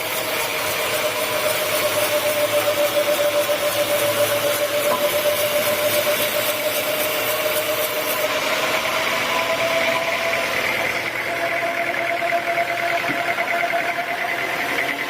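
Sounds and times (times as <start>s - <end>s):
sawmill machinery whining: 0.0s - 15.0s.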